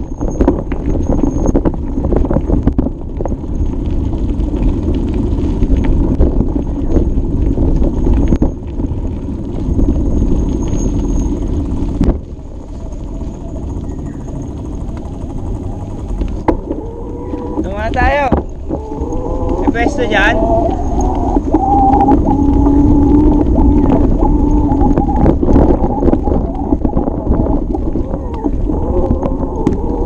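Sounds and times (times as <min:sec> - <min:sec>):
bike clicks and rattles: 0:00.0 - 0:30.0
bike tyres rumbling on trail: 0:00.0 - 0:30.0
wind on microphone: 0:00.0 - 0:30.0.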